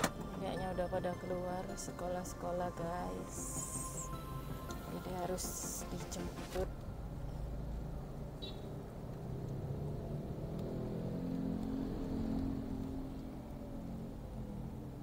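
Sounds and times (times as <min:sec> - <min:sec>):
car engine: 0:00.0 - 0:15.0
road rumble: 0:00.0 - 0:15.0.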